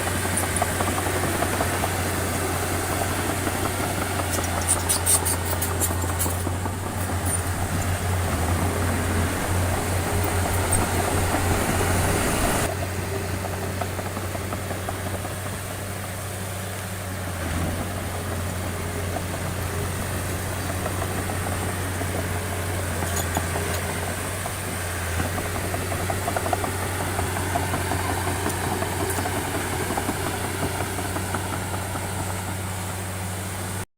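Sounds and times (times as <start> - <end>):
construction machine engine humming: 0.0 - 33.9.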